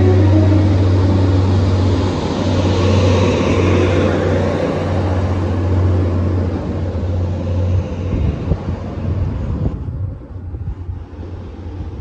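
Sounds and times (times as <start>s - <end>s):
diesel train engine droning: 0.0s - 12.0s.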